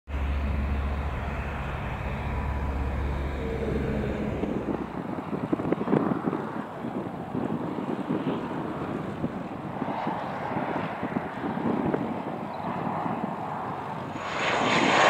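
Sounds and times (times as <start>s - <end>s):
light aeroplane engine drone: 0.1s - 15.0s
wind noise on microphone: 0.1s - 15.0s.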